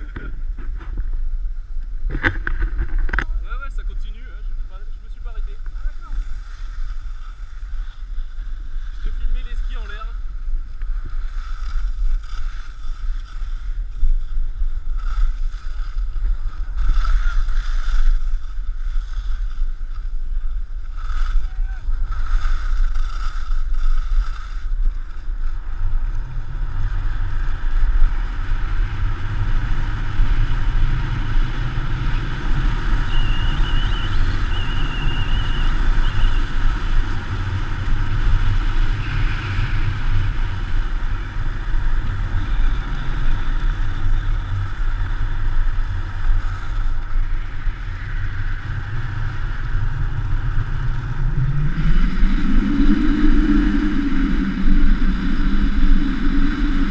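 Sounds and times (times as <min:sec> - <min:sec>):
skis sliding over snow: 0:00.0 - 0:56.9
wind buffeting microphone: 0:00.0 - 0:56.9.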